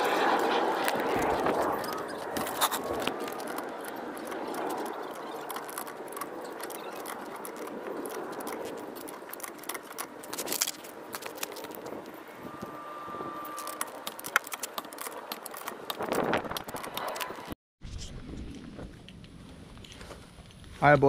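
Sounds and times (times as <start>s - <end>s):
steady background hum: 0.0s - 17.6s.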